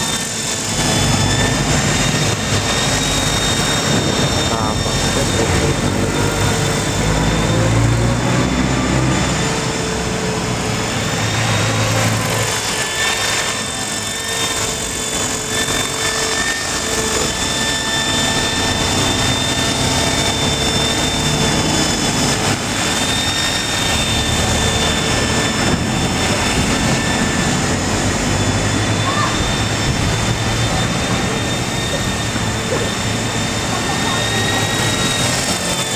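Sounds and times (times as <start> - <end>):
electric motor whine: 0.0 - 35.9
rotor blades whirring: 0.0 - 35.9.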